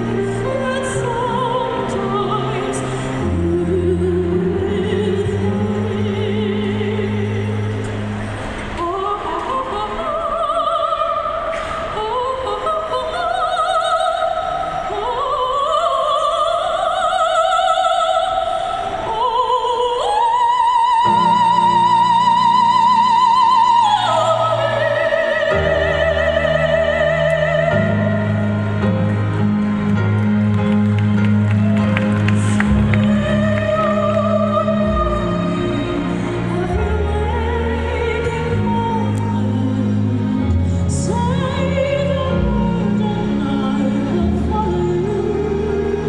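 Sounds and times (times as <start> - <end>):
soprano singing: 0.0 - 46.0.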